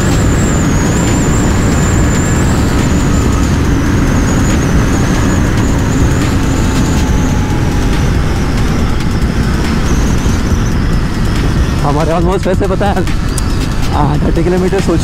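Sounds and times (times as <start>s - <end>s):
motorcycle engine running: 0.0s - 15.0s
wind rush over microphone: 0.0s - 15.0s.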